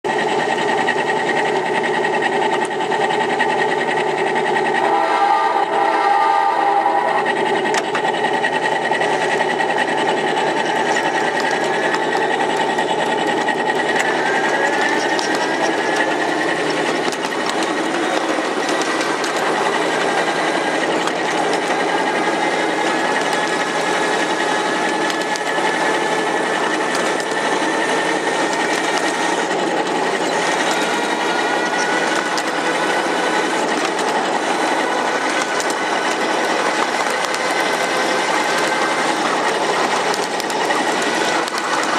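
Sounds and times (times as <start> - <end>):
faint motor whine: 0.1 - 41.9
miniature locomotive whirring: 0.1 - 41.9.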